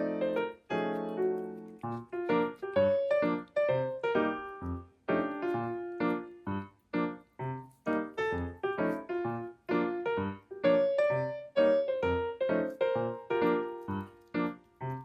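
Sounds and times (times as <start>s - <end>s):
light keyboard melody: 0.0s - 15.0s.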